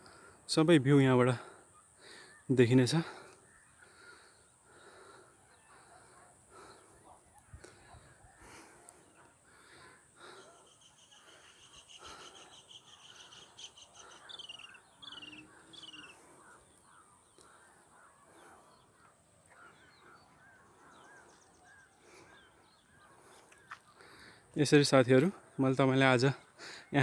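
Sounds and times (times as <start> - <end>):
distant birdsong trill: 0.0 - 27.0
soft bird chirps: 1.7 - 24.8.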